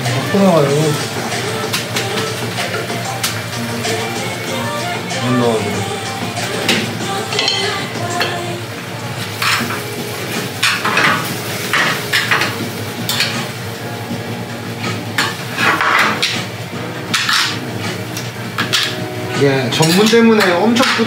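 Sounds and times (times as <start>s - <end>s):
noodles sizzling in frying pan: 0.0s - 5.3s, 6.3s - 21.0s.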